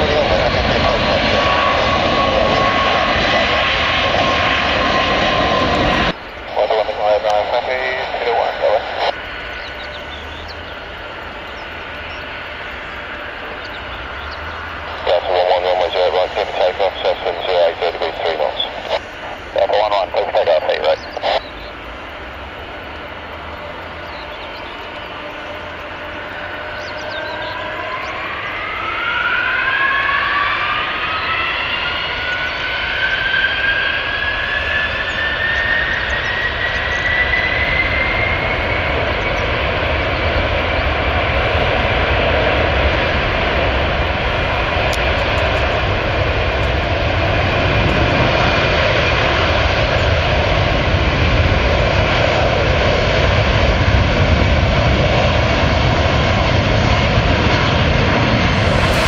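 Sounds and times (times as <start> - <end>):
jet engines spooling up: 0.0 - 59.0.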